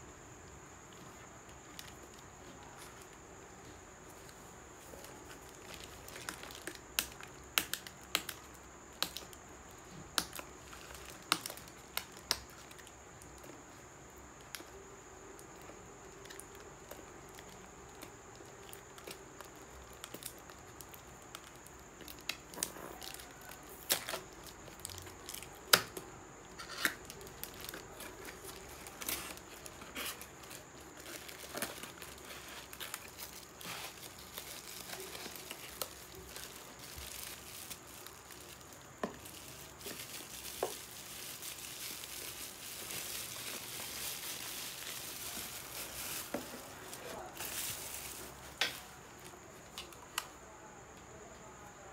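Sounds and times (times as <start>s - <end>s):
plastic crinkling: 4.2s - 13.6s, 14.4s - 50.3s.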